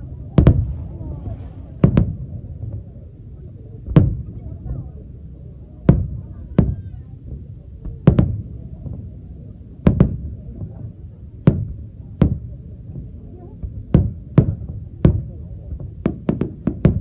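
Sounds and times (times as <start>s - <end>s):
fireworks bursting with bangs: 0.2s - 2.9s, 3.8s - 4.4s, 5.8s - 9.1s, 9.8s - 17.0s.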